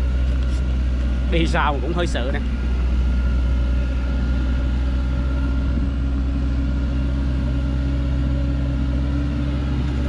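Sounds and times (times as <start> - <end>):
diesel truck engine under load: 0.0 - 10.0.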